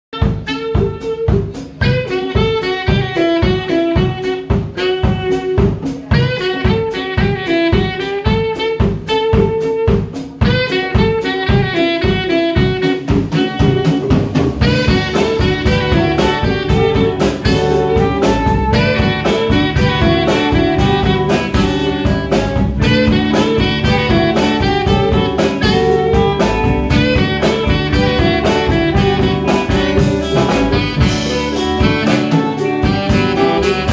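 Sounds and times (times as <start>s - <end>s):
drum kit: 0.1s - 33.9s
electric bass: 0.1s - 33.9s
electric guitar: 0.2s - 33.9s
saxophones playing melody: 0.2s - 33.9s.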